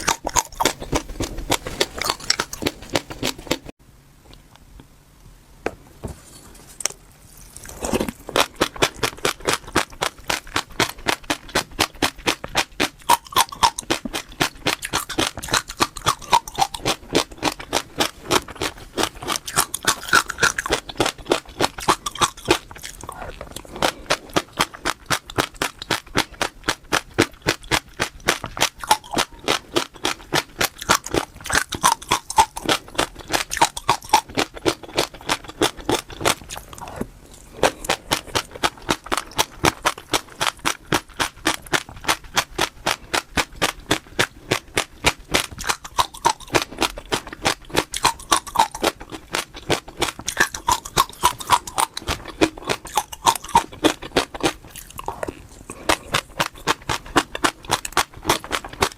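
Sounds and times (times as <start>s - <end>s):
chewing crunchy food: 0.0s - 4.4s, 6.6s - 58.9s.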